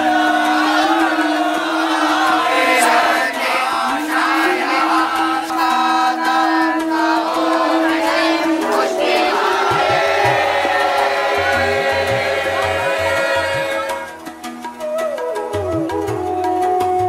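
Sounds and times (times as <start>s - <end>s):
voices chanting together: 0.0s - 14.3s.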